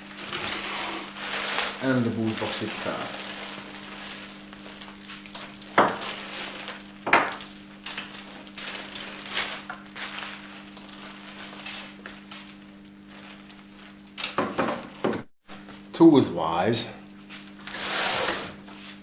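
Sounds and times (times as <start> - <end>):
steady low hum: 0.0 - 17.7.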